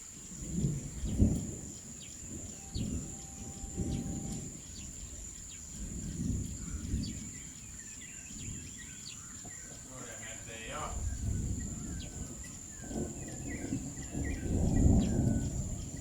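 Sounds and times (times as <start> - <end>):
high insect drone: 0.0 - 16.0
birds chirping: 0.4 - 16.0.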